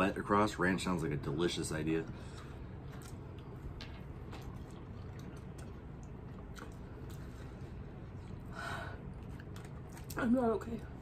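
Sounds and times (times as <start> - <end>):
low room hum: 0.0 - 11.0
people chewing: 2.1 - 10.9.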